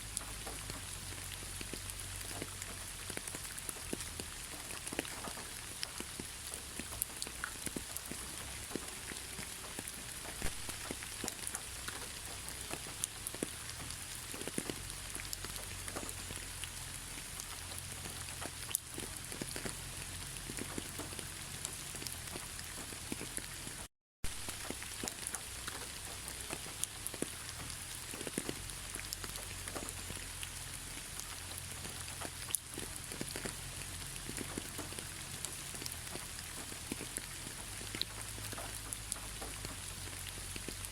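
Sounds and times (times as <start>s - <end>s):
rain drops tapping: 0.0s - 40.9s.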